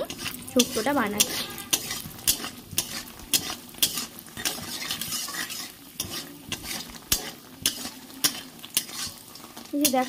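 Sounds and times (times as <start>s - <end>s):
dumplings sizzling in oil: 0.0s - 10.0s
metal spatula scraping pan: 0.0s - 10.0s.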